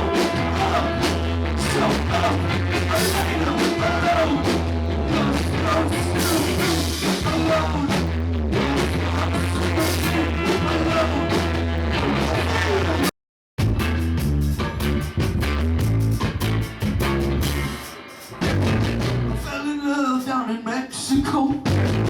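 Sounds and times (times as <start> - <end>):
live rock band playing: 0.0 - 19.6, 21.6 - 22.0.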